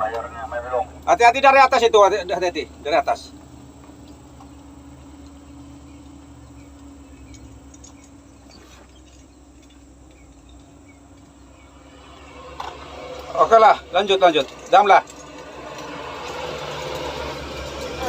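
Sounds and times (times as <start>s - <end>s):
steady hum: 0.0s - 15.0s
diesel engine idling: 0.0s - 18.0s.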